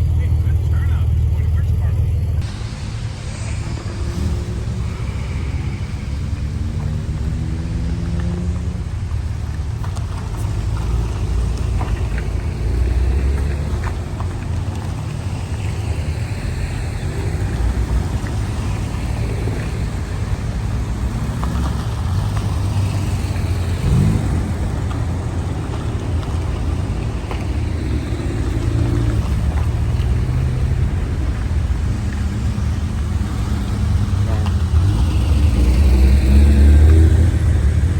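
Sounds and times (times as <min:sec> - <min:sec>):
car engine revving: 0:00.0 - 0:37.9
low road rumble: 0:00.0 - 0:37.9.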